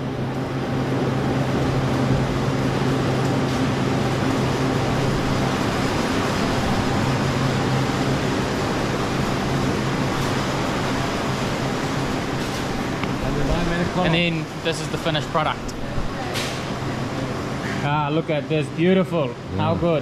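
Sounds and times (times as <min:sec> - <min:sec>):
factory machinery drone: 0:00.0 - 0:20.0.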